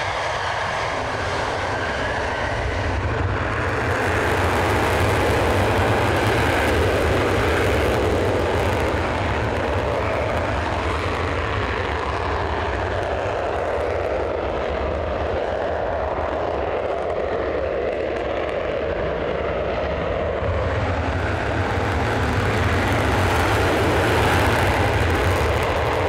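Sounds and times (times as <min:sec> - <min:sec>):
jet engines roaring: 0:00.0 - 0:26.0
jet taking off: 0:00.0 - 0:26.0.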